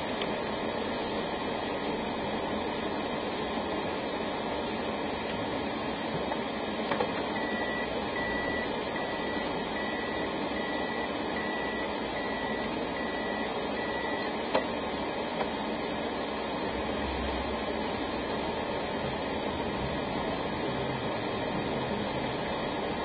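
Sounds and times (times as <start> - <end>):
car cabin and road noise: 0.0 - 23.0.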